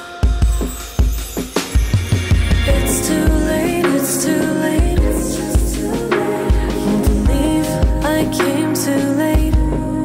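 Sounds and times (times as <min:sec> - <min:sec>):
pop music with slow drum beat: 0:00.0 - 0:10.0.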